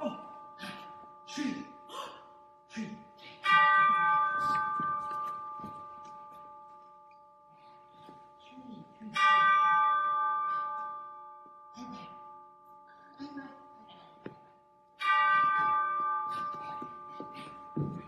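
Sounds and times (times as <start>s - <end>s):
bell ringing: 0.0s - 18.0s.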